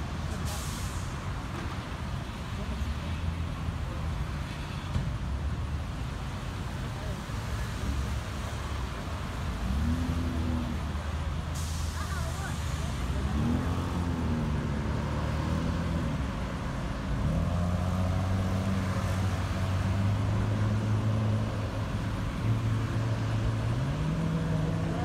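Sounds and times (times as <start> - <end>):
passing road traffic: 0.0 - 25.0.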